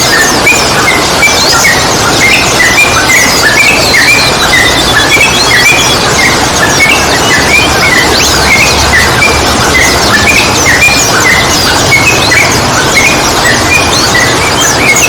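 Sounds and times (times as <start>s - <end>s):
birds chattering in a flock: 0.0s - 15.0s
steady rushing noise: 0.0s - 15.0s.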